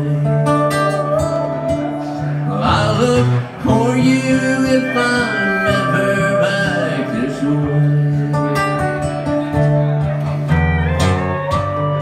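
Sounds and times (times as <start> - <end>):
pedal steel guitar gliding notes: 0.0 - 12.0
strummed acoustic guitar: 0.0 - 12.0.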